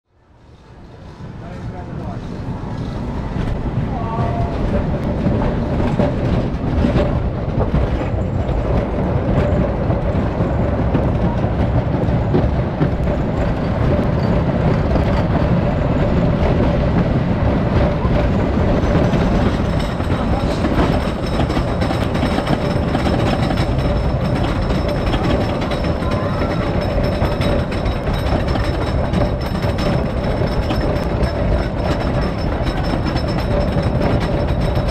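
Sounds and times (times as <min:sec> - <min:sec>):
roller coaster wheels rumbling: 0:00.2 - 0:34.9
lift hill mechanical clatter: 0:01.5 - 0:34.9.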